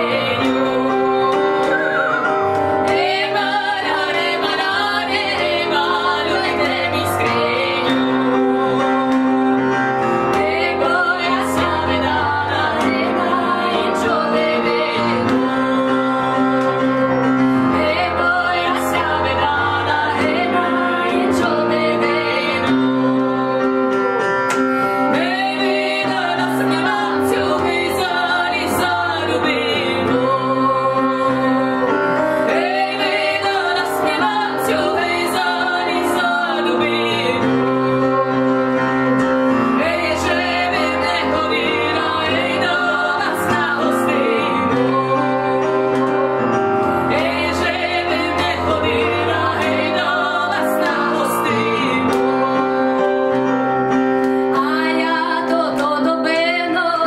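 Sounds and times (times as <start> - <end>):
two women singing together: 0.0 - 24.2, 25.0 - 46.4, 47.0 - 53.4, 54.3 - 57.0
piano chords on keyboard: 0.0 - 57.0.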